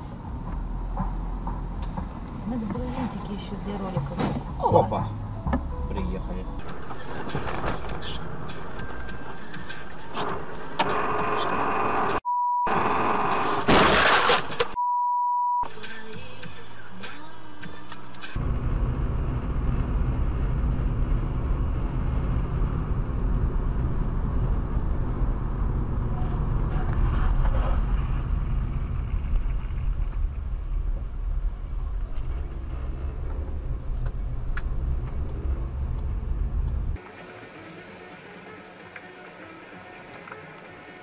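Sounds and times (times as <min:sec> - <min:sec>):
car engine and tyre rumble: 0:00.0 - 0:14.8, 0:16.0 - 0:41.0.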